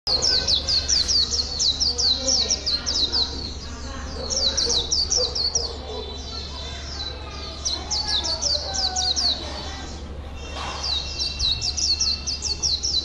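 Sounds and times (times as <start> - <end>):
bird chirping: 0.1 - 13.0.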